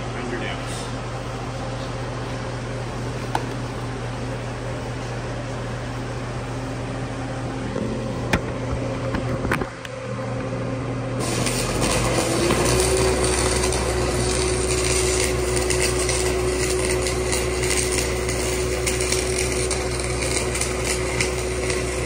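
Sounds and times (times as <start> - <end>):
welding machine engine humming: 0.0 - 22.0.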